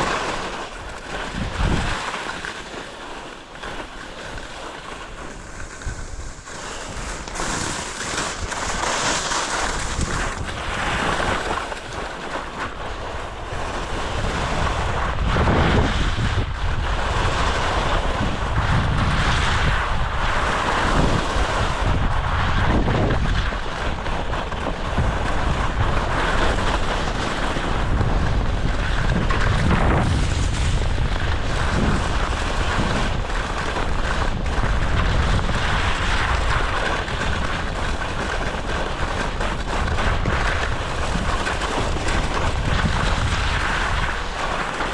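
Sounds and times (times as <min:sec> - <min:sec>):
wind buffeting microphone: 0:00.0 - 0:02.4, 0:03.5 - 0:44.9.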